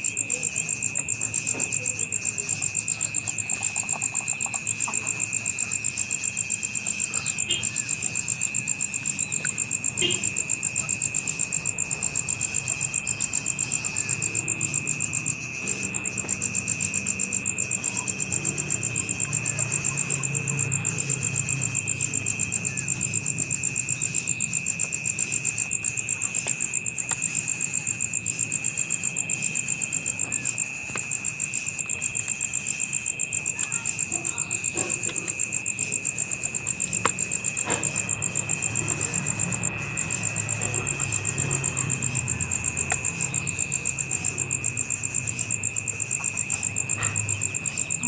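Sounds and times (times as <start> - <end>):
insects buzzing: 0.0 - 48.0
insects chirping rapidly: 0.0 - 48.0.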